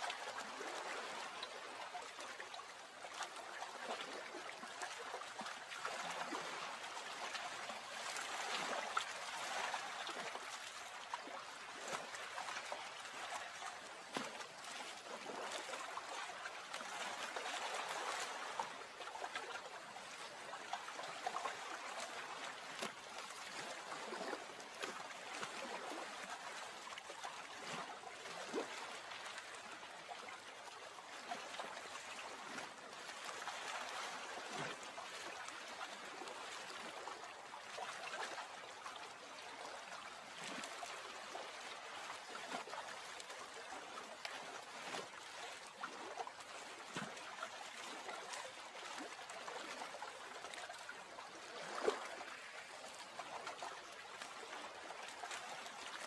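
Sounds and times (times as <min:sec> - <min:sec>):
water trickling and gurgling: 0:00.0 - 0:56.0.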